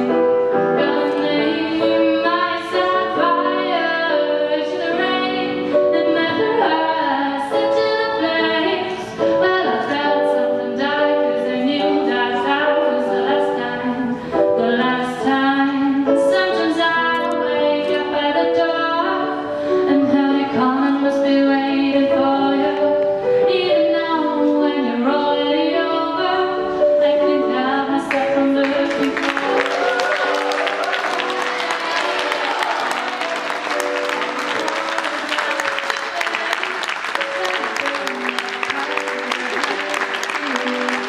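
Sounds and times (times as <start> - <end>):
piano: 0.0 - 41.0.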